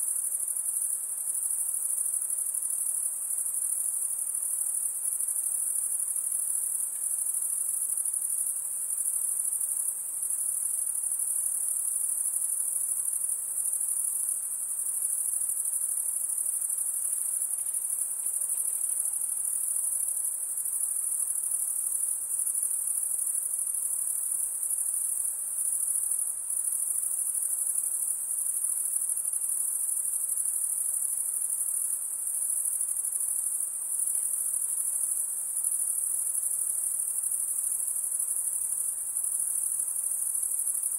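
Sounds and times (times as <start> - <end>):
insects trilling: 0.2 - 40.9.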